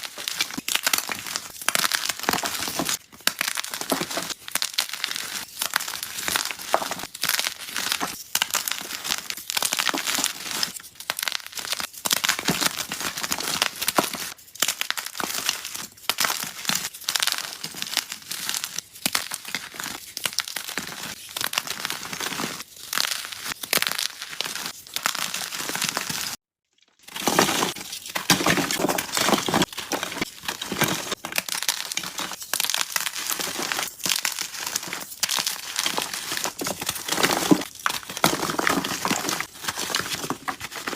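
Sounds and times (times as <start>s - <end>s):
chalk blocks crushing and crumbling: 0.0s - 26.4s, 27.0s - 40.9s.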